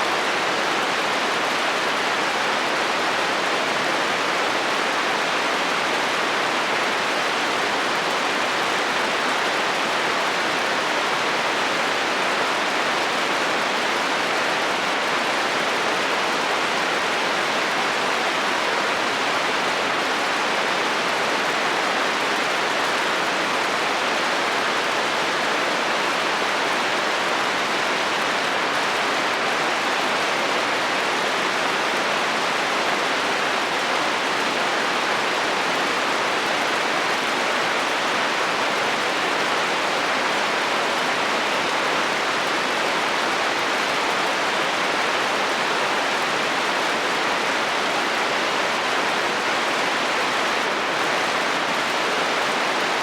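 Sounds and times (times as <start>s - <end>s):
heavy rain on a metal roof: 0.0s - 53.0s.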